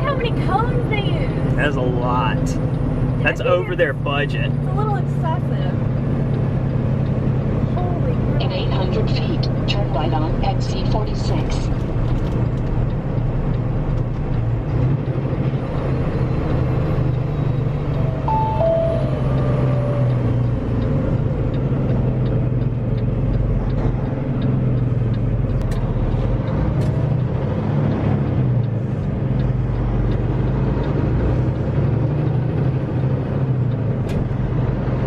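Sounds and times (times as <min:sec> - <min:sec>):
road noise: 0:00.0 - 0:35.0
truck diesel engine cruising: 0:00.0 - 0:35.0.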